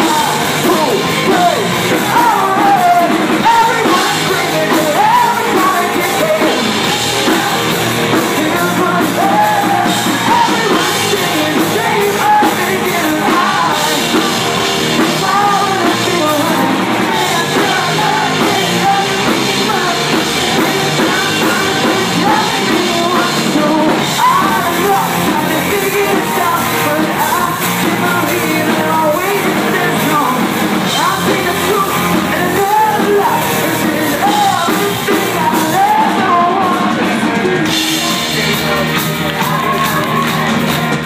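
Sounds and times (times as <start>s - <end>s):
live rock band: 0.0s - 41.0s
man singing: 0.0s - 41.0s.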